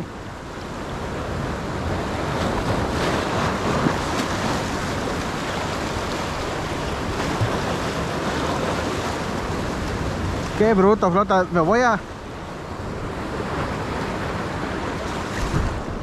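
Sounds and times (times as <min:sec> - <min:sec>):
surf splashing over rocks: 0:00.0 - 0:16.0
wind buffeting microphone: 0:00.0 - 0:16.0.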